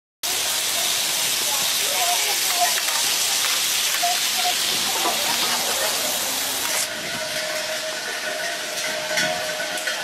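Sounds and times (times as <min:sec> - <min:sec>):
sausages sizzling on griddle: 0:00.2 - 0:10.0.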